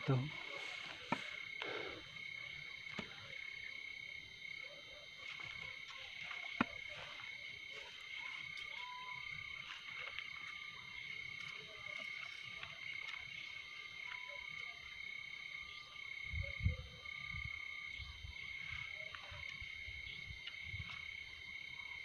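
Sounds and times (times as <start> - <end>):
frog calls: 0.0 - 22.0
insect trill: 0.0 - 22.0.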